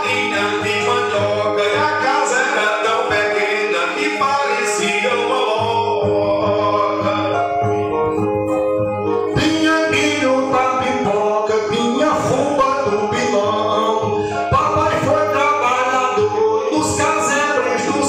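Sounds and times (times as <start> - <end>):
man singing: 0.0 - 8.2, 9.2 - 18.0
guitars playing: 0.0 - 18.0.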